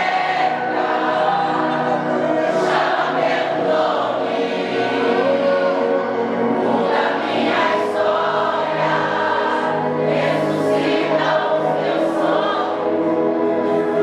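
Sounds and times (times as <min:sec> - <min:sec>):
choir singing gospel song: 0:00.0 - 0:14.0
musical accompaniment: 0:00.0 - 0:14.0.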